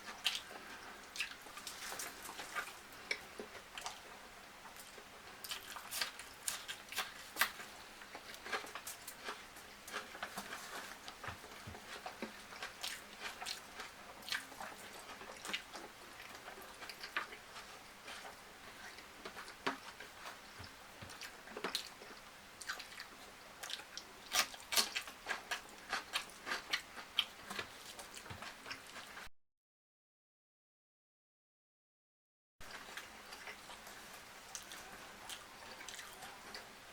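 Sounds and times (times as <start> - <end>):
person chewing crunchy food: 0.0 - 29.2, 32.6 - 36.9.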